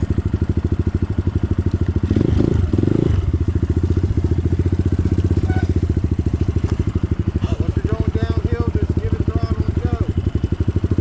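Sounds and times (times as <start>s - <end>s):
dirt bike engine idling: 0.0s - 11.0s.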